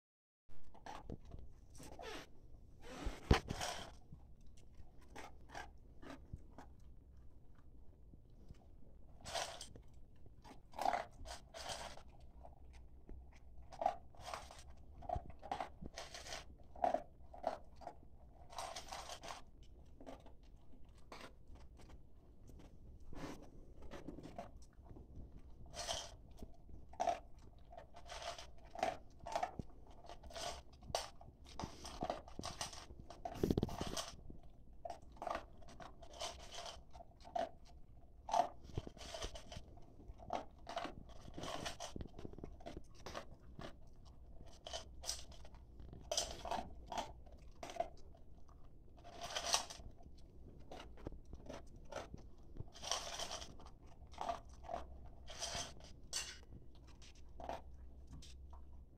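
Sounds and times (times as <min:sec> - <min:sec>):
dog crunching dry kibble: 0:00.6 - 0:58.9.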